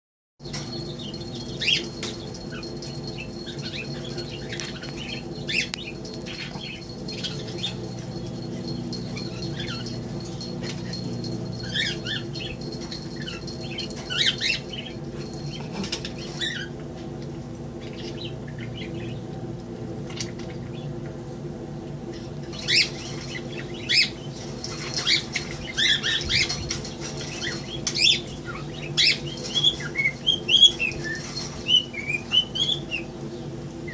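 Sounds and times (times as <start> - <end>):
steady low hum: 0.4 - 33.9.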